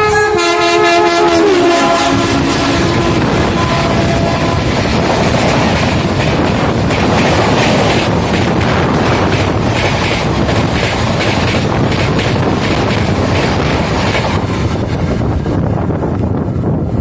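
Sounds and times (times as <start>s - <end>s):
passing train rushing by: 0.0s - 17.0s
train running noise: 0.0s - 17.0s
wind on microphone: 0.0s - 17.0s.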